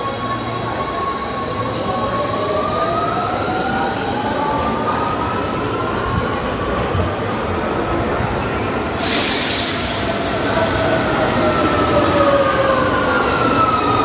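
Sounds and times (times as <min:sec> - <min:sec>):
rail vehicle rumble: 0:00.0 - 0:14.0.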